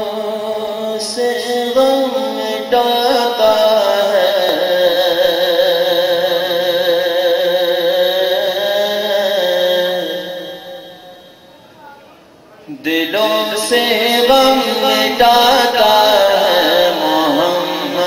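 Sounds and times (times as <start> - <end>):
man singing with vibrato: 0.0 - 11.6, 12.7 - 18.0.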